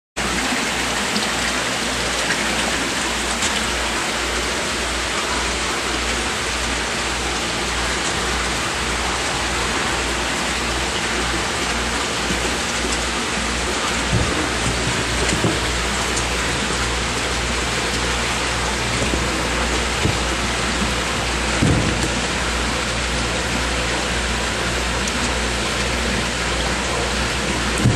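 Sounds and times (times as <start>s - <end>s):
water rushing and splashing: 0.2s - 27.9s.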